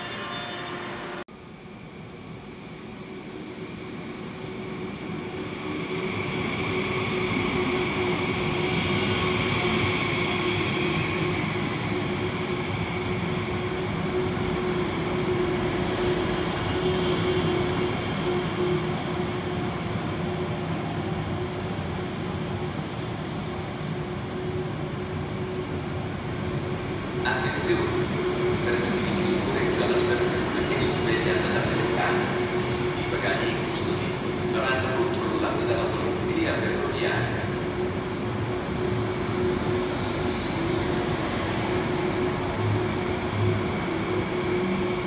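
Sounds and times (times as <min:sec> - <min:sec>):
train rolling noise: 0:00.0 - 0:45.0.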